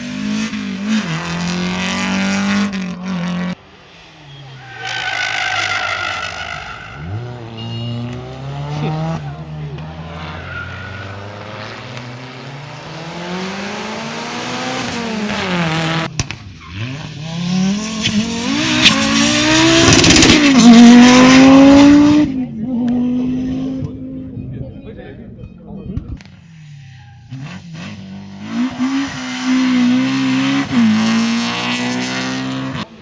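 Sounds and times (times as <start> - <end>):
car revving hard: 0.0 - 24.6, 27.3 - 33.0
rally car engines at full throttle: 0.0 - 33.0.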